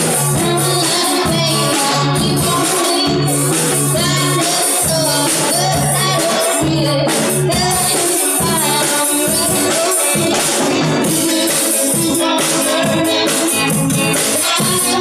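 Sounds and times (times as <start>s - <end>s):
live rock band playing: 0.0s - 15.0s
woman singing: 0.0s - 15.0s.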